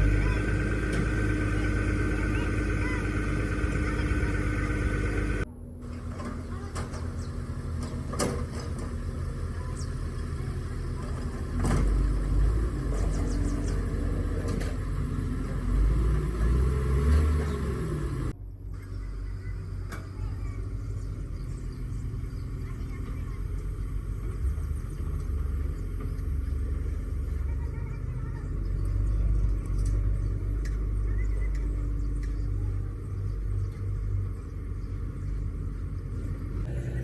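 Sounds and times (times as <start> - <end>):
low vehicle engine rumble: 0.0 - 37.0.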